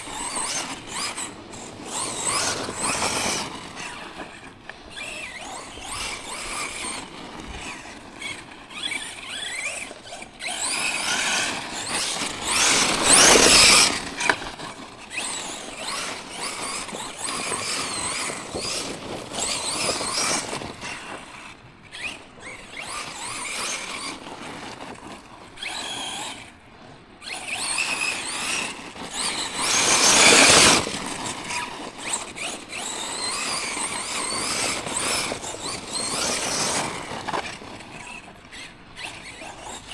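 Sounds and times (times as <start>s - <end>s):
toy truck motor whining: 0.0s - 39.9s.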